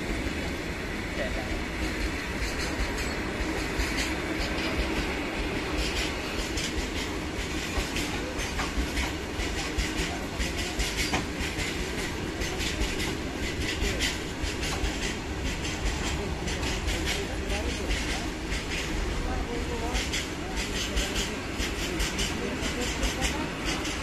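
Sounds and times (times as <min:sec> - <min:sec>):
freight train rumbling past: 0:00.0 - 0:24.0
wheels clattering on rails: 0:01.8 - 0:24.0.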